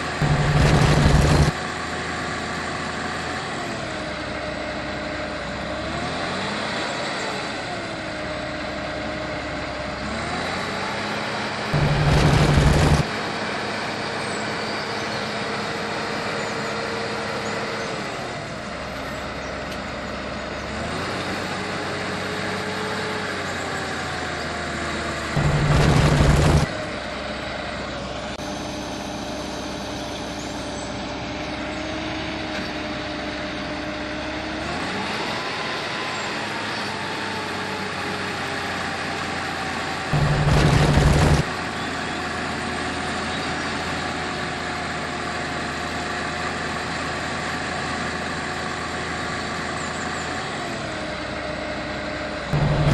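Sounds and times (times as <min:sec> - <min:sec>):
heavy vehicle engine running: 0:00.0 - 0:52.9.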